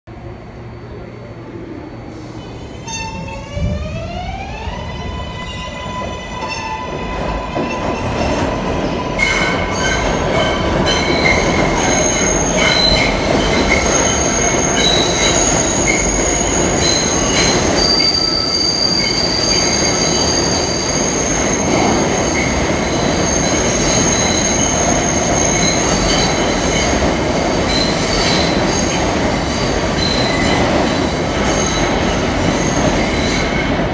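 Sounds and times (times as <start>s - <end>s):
rumble of train cars: 0.1s - 33.9s
train wheels squealing: 0.5s - 3.6s, 4.5s - 33.8s.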